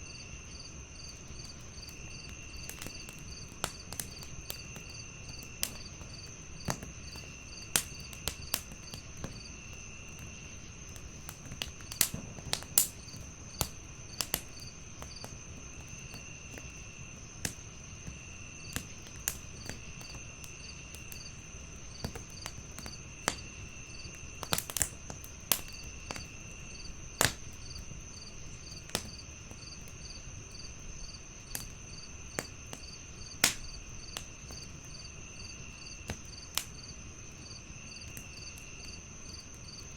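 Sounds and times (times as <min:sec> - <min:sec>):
crickets chirping: 0:00.0 - 0:39.9
wood fire crackling: 0:00.2 - 0:39.9
fire popping: 0:00.8 - 0:39.9.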